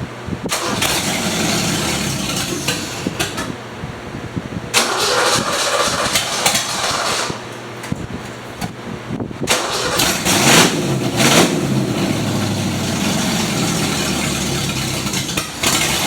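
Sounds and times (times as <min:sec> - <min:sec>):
loud car engine running unevenly: 0:00.5 - 0:03.8, 0:04.7 - 0:16.0.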